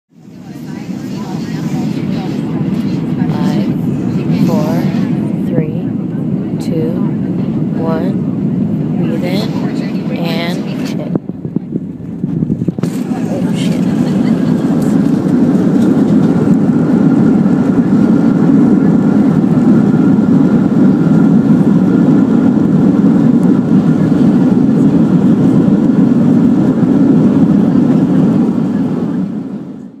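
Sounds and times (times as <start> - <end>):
jet engines roaring: 0.1 - 30.0
runway rumble: 0.1 - 30.0.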